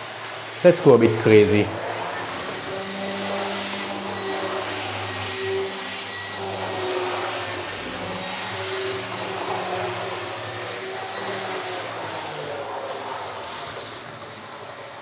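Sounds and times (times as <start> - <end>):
model locomotive motor whir: 0.0 - 15.0
wheels running on track: 0.0 - 15.0.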